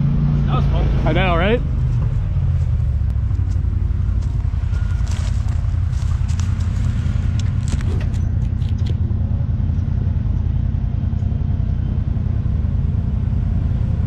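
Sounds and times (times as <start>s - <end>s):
utility vehicle engine droning: 0.0s - 14.0s.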